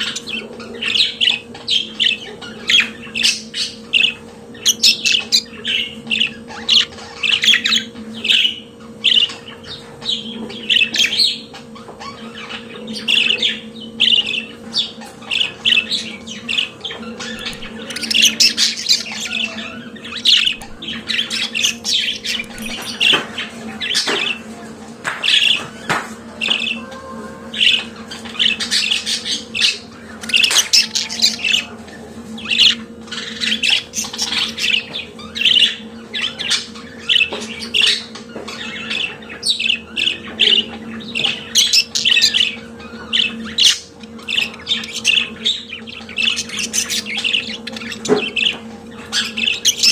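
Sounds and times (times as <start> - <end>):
budgerigar warbling and chattering: 0.0 - 49.9
faint steady hum: 0.0 - 49.9.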